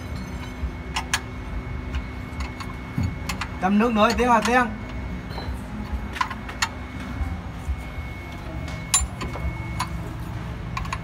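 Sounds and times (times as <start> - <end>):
low workshop background: 0.0 - 11.0.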